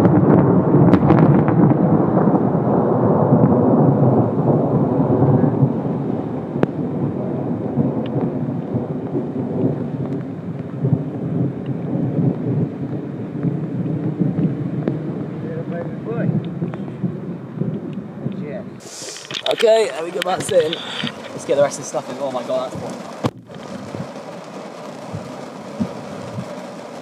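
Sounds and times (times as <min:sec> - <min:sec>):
thunder rumbling: 0:00.0 - 0:27.0.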